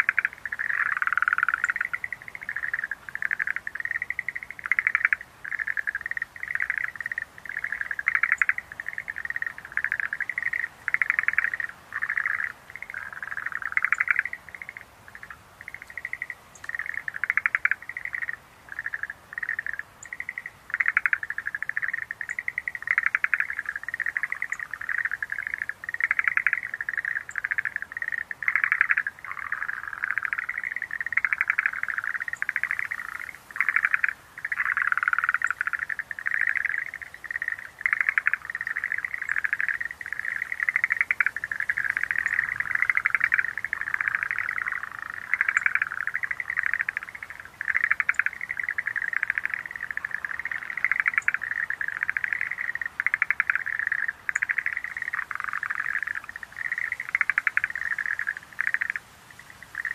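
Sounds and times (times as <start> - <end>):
tree frogs trilling: 0.0 - 59.9.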